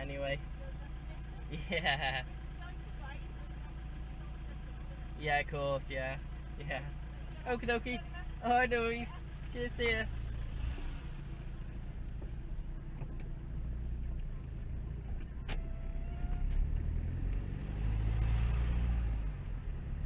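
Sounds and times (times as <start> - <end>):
diesel car engine rumbling: 0.0 - 20.0.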